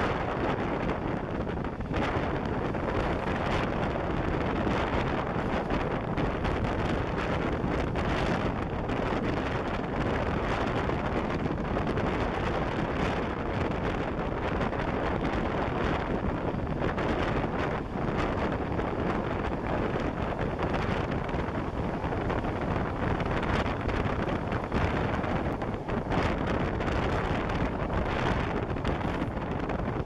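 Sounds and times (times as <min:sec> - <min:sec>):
moving train running noise: 0:00.0 - 0:30.0
wind buffeting microphone: 0:00.0 - 0:30.0.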